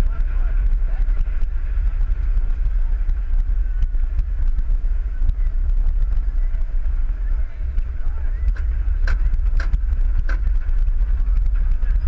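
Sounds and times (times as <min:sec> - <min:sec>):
faint track clicks: 0:00.0 - 0:12.0
roller coaster rumbling on track: 0:00.0 - 0:12.0.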